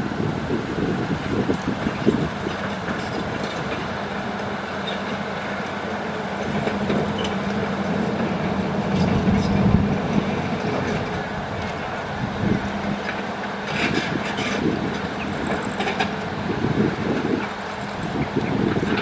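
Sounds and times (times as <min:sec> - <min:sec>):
excavator diesel engine working: 0:00.0 - 0:19.0.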